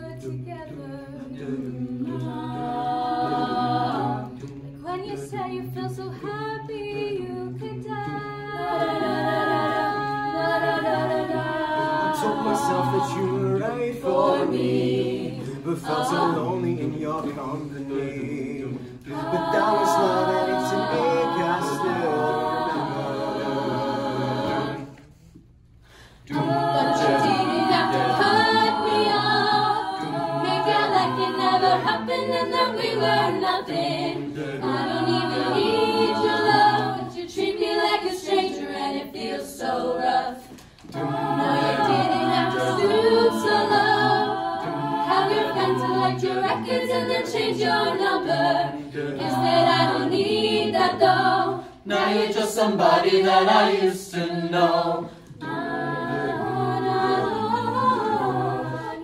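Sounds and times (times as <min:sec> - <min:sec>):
a cappella group singing: 0:00.0 - 0:59.0.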